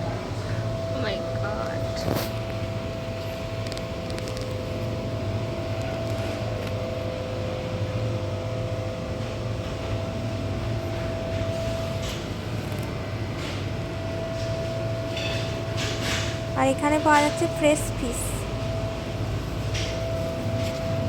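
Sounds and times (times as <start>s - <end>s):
refrigeration units humming: 0.0s - 21.0s.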